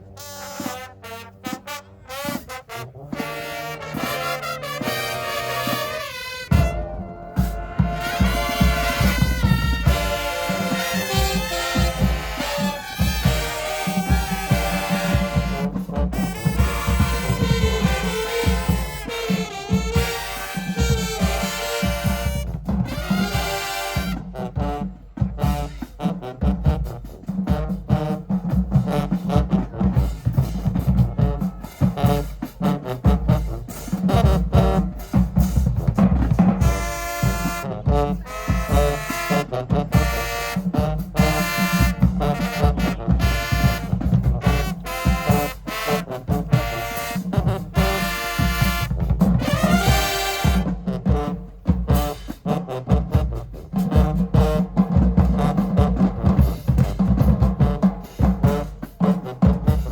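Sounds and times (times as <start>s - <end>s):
brass horns: 0.0s - 59.9s
drum line beat: 0.6s - 59.9s.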